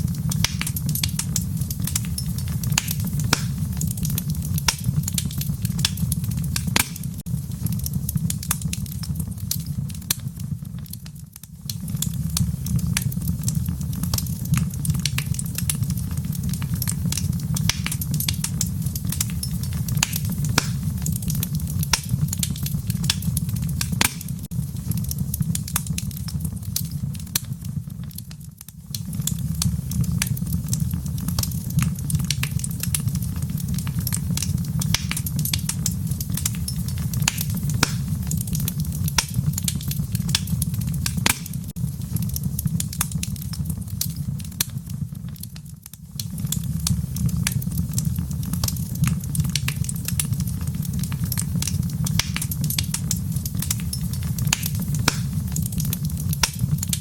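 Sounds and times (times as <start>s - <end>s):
fire popping and snapping: 0.0s - 57.0s
fire rumbling: 0.0s - 57.0s.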